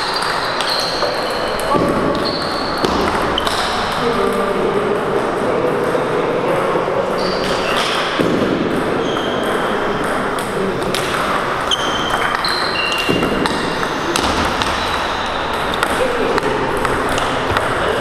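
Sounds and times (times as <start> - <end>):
murmur of large hall: 0.0 - 18.0
table tennis balls pinging: 0.0 - 18.0.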